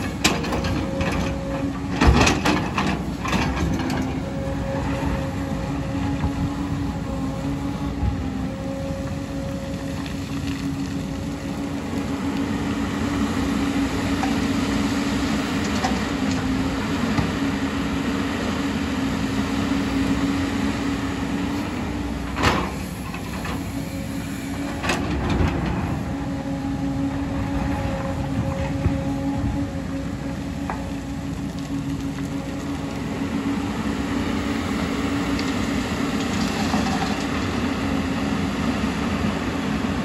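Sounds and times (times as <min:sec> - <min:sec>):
excavator diesel engine drone: 0:00.0 - 0:40.0.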